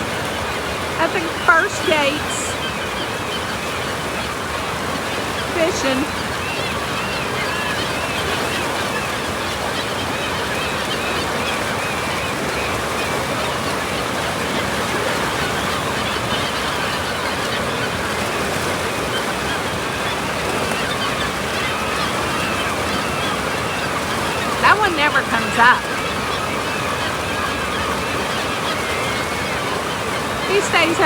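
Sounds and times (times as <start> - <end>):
gulls crying: 0.0 - 31.0
rushing water: 0.0 - 31.0.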